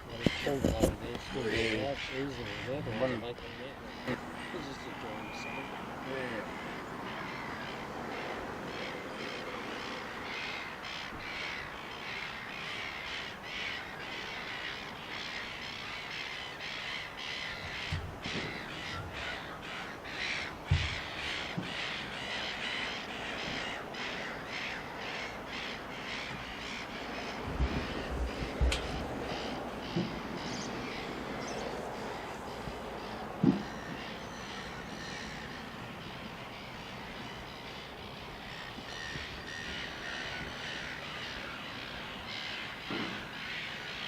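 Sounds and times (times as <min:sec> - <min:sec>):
crows cawing: 0:00.1 - 0:44.0.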